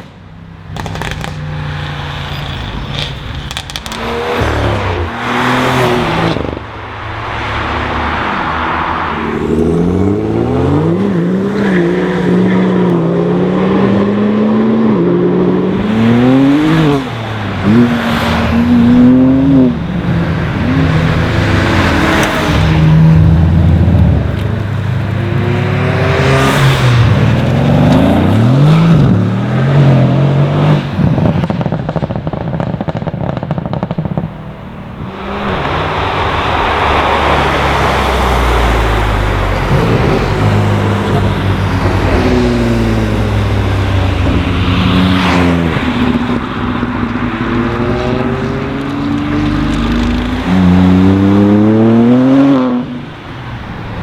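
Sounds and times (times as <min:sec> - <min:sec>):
cars passing at speed: 0:00.0 - 0:54.0.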